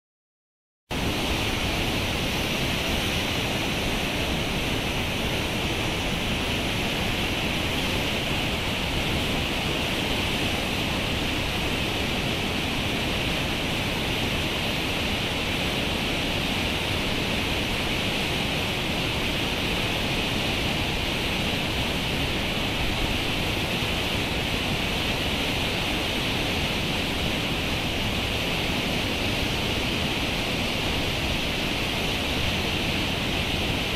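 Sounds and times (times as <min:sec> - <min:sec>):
river rushing through rapids: 0:00.9 - 0:33.9.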